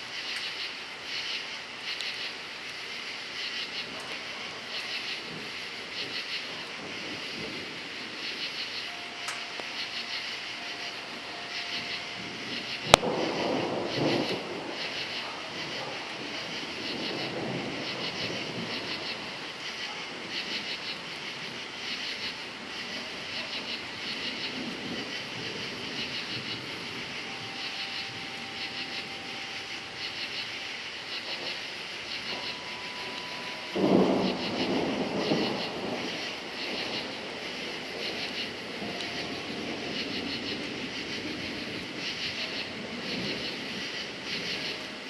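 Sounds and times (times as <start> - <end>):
crickets chirping: 0.0 - 45.0
thunder rumbling: 3.4 - 45.0
thunder crack: 3.8 - 44.8.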